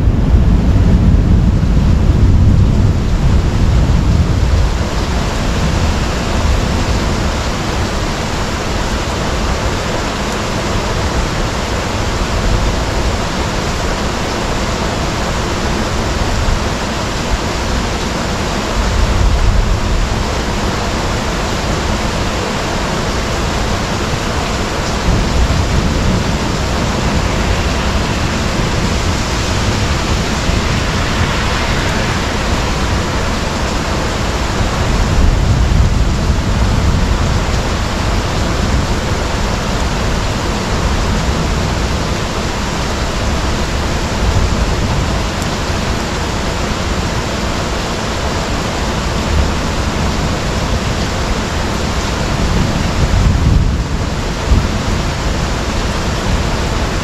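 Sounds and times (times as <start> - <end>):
heavy rain hissing: 0.0 - 57.0
thunder rumbling: 0.0 - 57.0.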